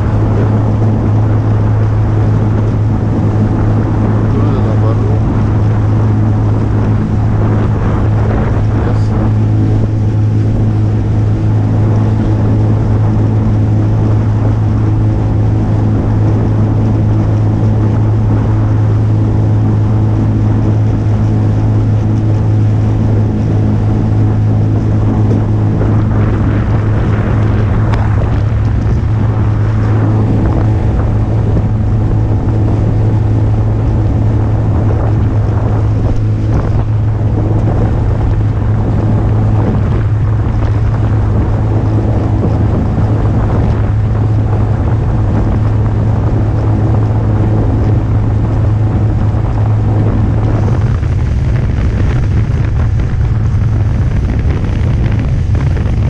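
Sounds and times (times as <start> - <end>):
boat motor droning: 0.0 - 56.0
water rushing along hull: 0.0 - 56.0
wind buffeting microphone: 0.0 - 56.0.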